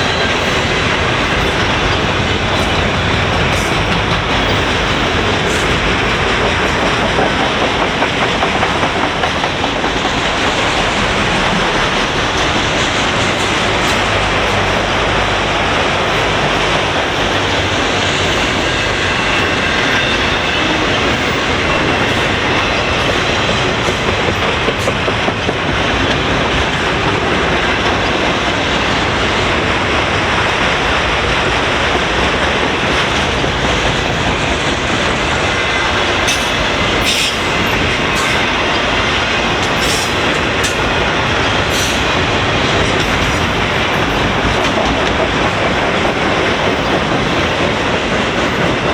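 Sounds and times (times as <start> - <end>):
freight train wheels clattering: 0.0 - 48.9.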